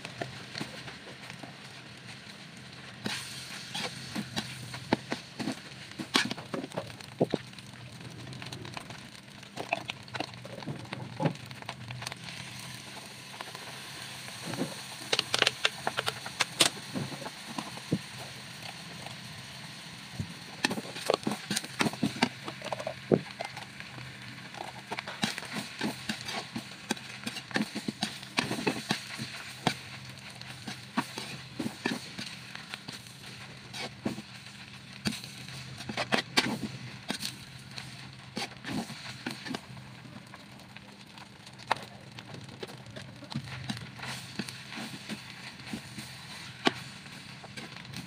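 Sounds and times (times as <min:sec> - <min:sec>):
rice sizzling in a wok: 0:00.0 - 0:48.0.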